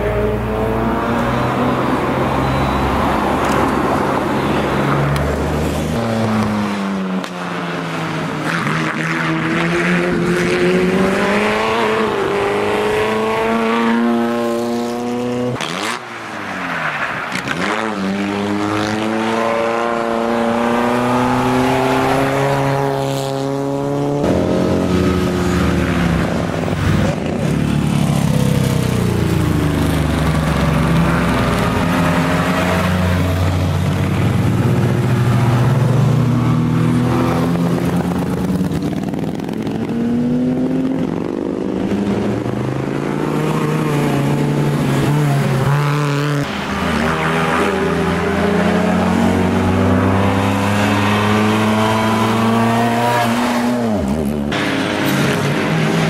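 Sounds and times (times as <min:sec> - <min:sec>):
racing car engines accelerating: 0:00.0 - 0:56.0.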